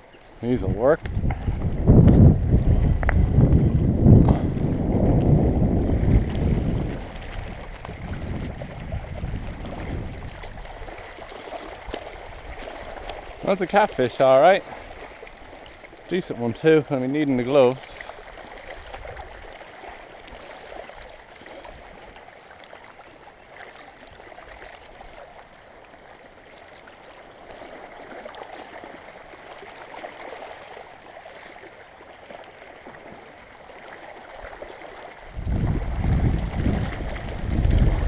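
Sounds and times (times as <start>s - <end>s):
river water lapping on gravel: 0.0s - 38.0s.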